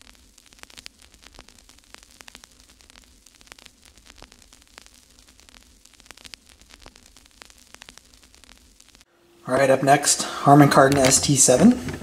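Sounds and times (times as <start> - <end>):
crackling static: 0.0 - 12.0.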